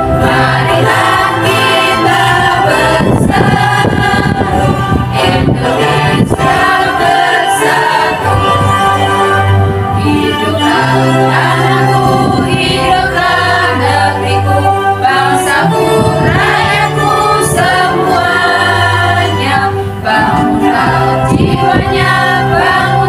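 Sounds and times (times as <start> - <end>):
women's choir singing: 0.0 - 23.0.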